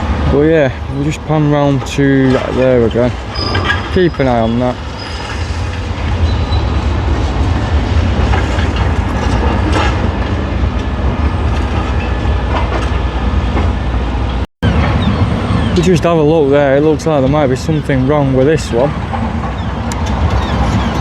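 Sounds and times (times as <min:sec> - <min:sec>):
excavator engine rumble: 0:00.0 - 0:21.0.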